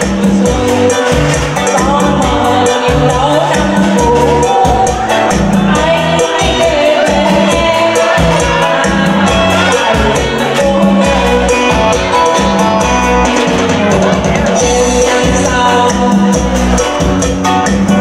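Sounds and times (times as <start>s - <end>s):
instrumental pop music: 0.0s - 18.0s.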